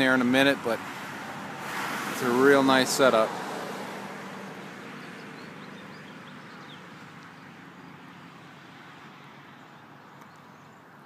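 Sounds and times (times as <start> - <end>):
distant traffic rush: 0.0 - 11.0.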